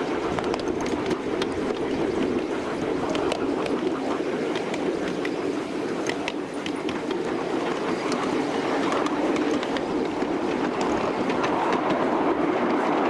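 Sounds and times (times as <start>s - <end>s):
clicks over rail joints: 0.0s - 13.0s
train wheels rumbling on rails: 0.0s - 13.0s.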